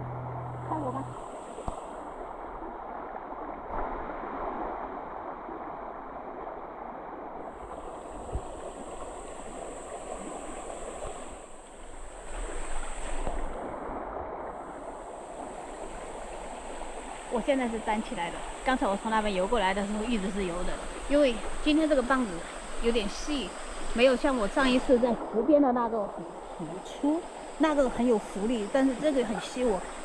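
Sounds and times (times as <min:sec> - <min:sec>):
water lapping and sloshing: 0:00.0 - 0:30.0.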